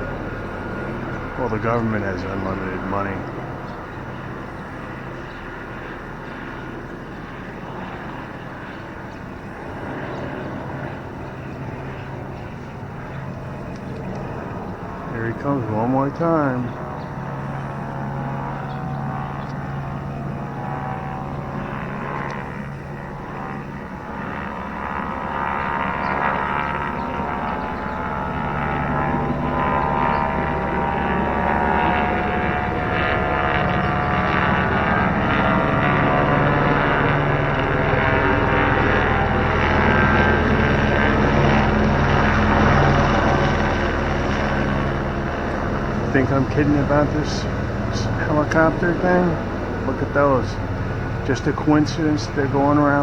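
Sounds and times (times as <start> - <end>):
helicopter flying overhead: 0.0 - 53.0.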